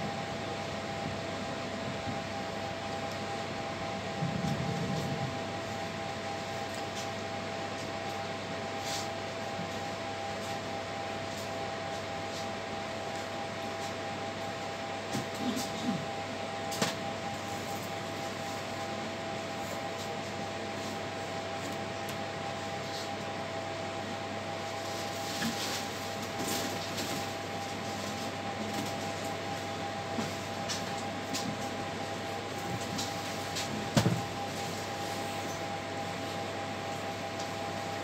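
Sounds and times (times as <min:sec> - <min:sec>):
train cabin hum and hiss: 0:00.0 - 0:38.0.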